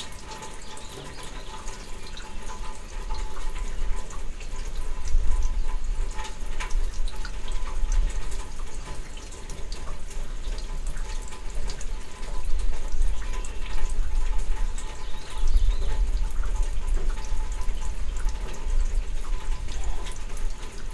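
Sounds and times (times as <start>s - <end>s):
drops splashing and dripping: 0.0s - 20.9s
rain falling: 0.0s - 20.9s.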